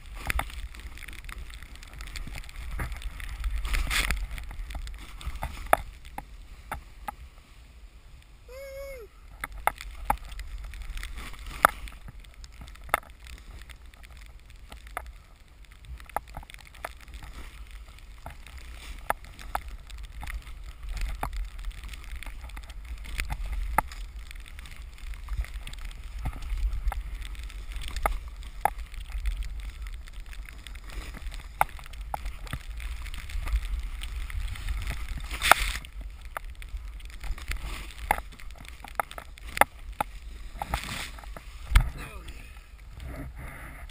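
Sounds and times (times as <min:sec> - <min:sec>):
snowboard rumble through powder: 0:00.0 - 0:43.9.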